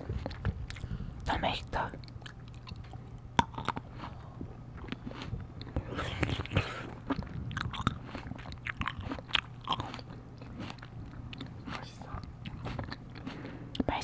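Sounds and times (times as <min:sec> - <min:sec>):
chewing and biting food: 0:00.0 - 0:01.0, 0:02.0 - 0:14.0
steady low hum: 0:00.0 - 0:14.0.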